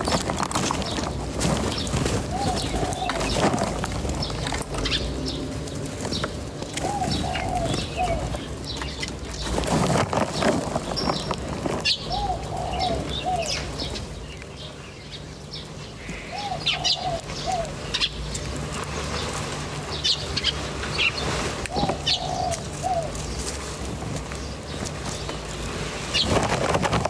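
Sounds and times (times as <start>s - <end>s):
dove cooing: 0.0s - 27.0s
small birds chirping: 0.0s - 27.0s.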